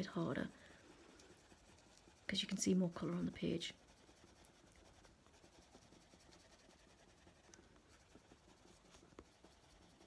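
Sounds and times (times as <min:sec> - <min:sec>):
coloured pencil scratching paper: 0:00.0 - 0:10.0.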